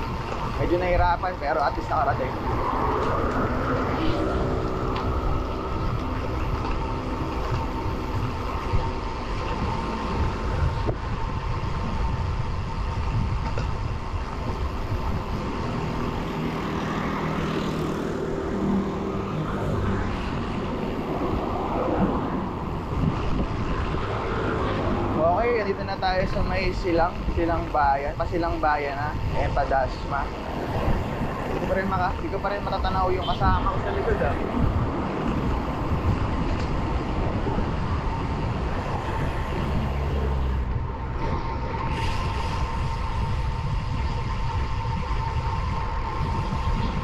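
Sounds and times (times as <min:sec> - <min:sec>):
motor vehicle engines: 0:00.0 - 0:47.0
road traffic: 0:00.0 - 0:47.0
wind rushing over microphone: 0:00.0 - 0:47.0.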